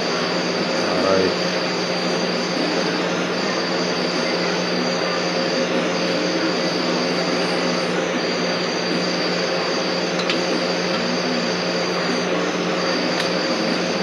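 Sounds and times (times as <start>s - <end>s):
machine drone with high whine: 0.0s - 14.0s.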